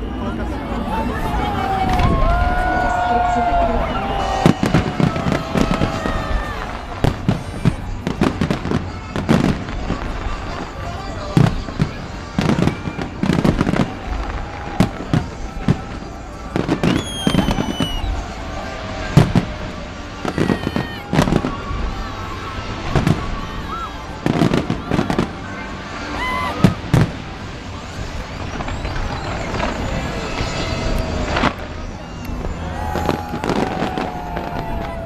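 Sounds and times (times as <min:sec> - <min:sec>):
background music: 0:00.0 - 0:35.0
fireworks crackling: 0:00.0 - 0:35.0
voices: 0:00.0 - 0:35.0
loud firework bangs: 0:01.8 - 0:23.6, 0:26.5 - 0:35.0.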